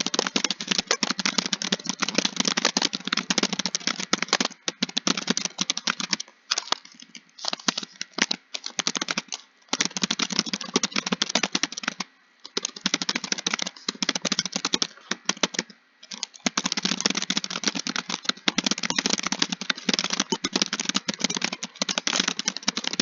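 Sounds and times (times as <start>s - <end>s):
computer keyboard typing: 0.0s - 23.0s.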